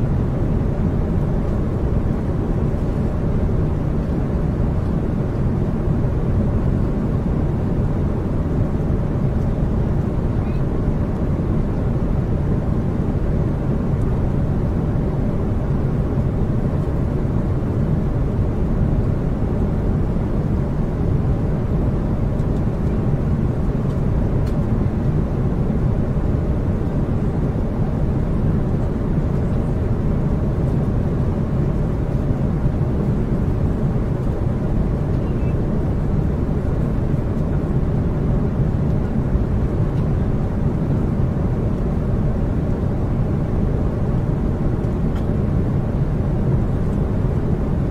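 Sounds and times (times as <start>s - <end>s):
aircraft engine drone: 0.0s - 47.9s.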